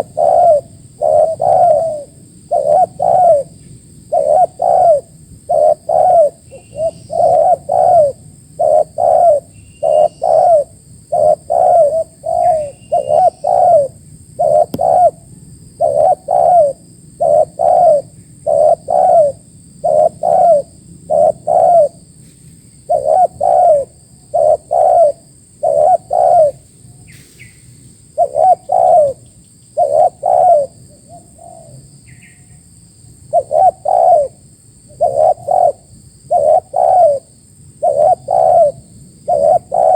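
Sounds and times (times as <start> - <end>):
dove cooing: 0.0 - 22.0, 22.9 - 27.4, 28.2 - 29.2, 29.8 - 31.9, 33.3 - 39.9
faint chirps: 0.0 - 32.7.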